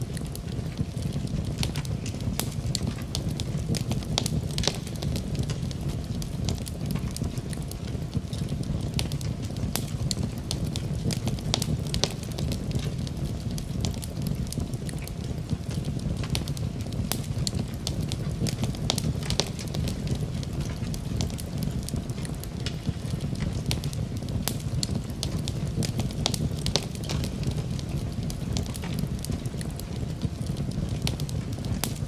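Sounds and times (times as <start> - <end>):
burning wood crackling and popping: 0.0 - 32.0
fire flames rumbling: 0.0 - 32.0.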